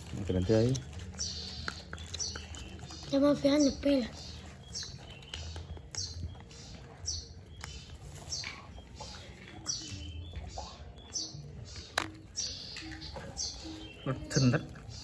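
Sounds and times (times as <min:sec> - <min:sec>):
bird chicks cheeping: 0:00.0 - 0:15.0.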